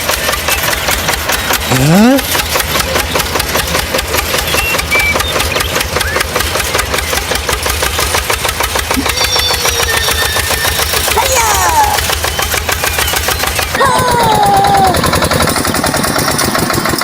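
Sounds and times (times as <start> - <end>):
engine running with fast knock: 0.0 - 17.0.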